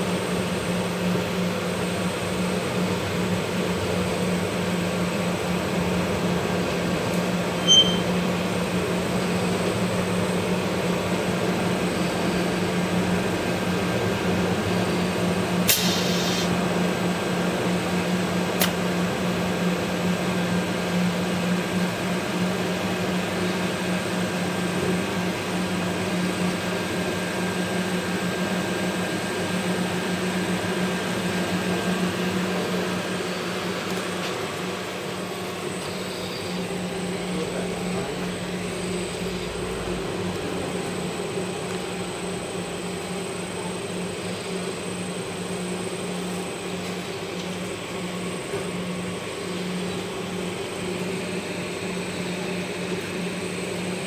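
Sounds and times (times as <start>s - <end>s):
heat press mechanical drone: 0.0s - 54.0s.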